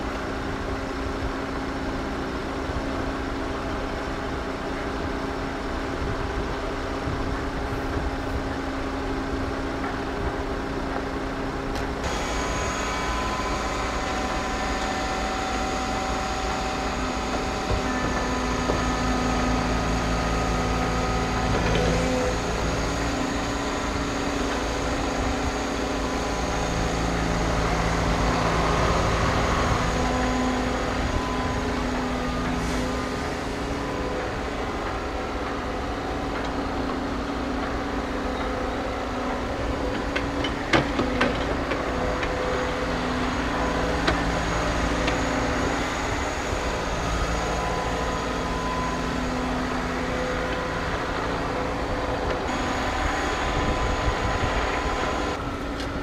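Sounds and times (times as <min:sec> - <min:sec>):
heavy machinery droning: 0:00.0 - 0:56.0.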